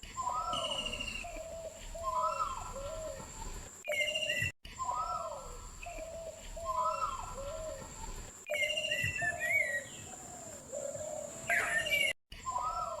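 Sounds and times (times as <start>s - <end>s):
birds whistling calls: 0.0s - 13.0s.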